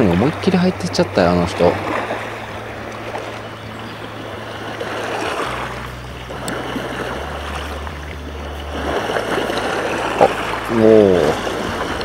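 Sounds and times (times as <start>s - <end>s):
small waves lapping shore: 0.0s - 12.0s.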